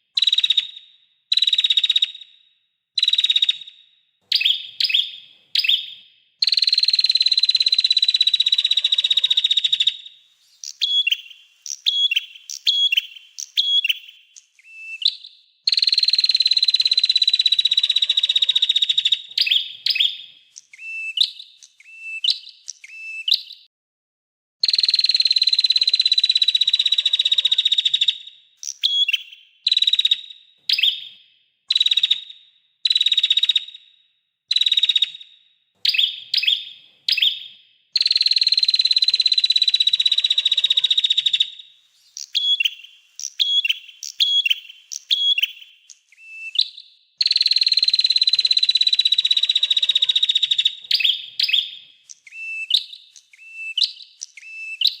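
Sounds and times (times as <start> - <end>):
songbird trilling and chirping: 3.0 - 23.7, 27.7 - 33.8, 35.8 - 55.0.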